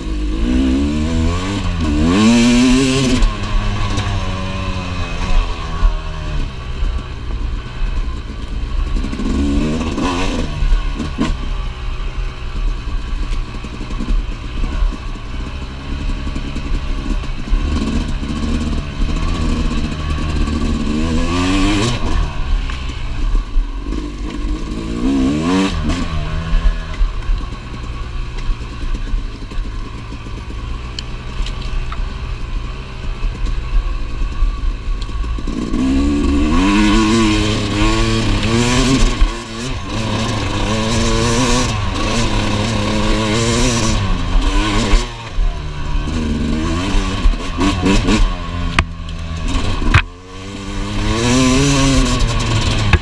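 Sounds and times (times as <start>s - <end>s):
two-stroke motorcycle engine revving: 0.0s - 53.0s.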